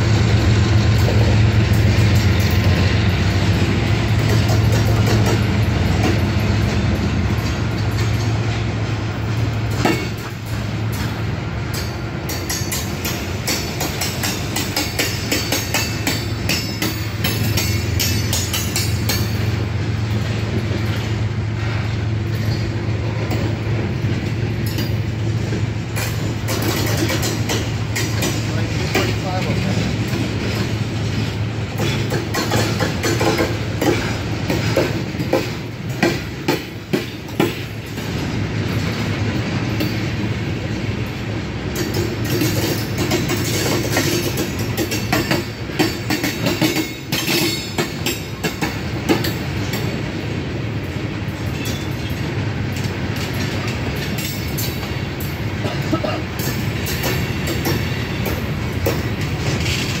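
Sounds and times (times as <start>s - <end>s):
railroad cars rumbling: 0.0s - 60.0s
wheels clicking over rail joints: 0.9s - 60.0s.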